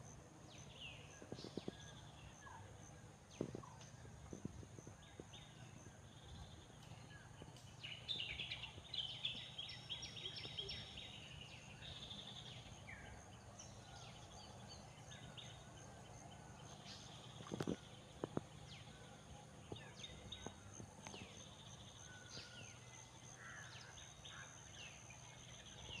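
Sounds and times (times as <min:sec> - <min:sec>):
birds calling and chirping: 0:00.5 - 0:26.0.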